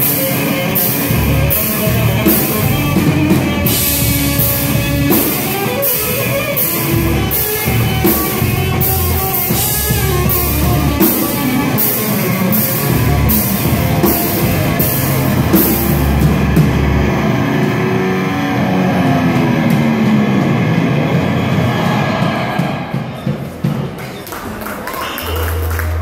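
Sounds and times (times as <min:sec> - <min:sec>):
punk band playing live: 0:00.0 - 0:26.0.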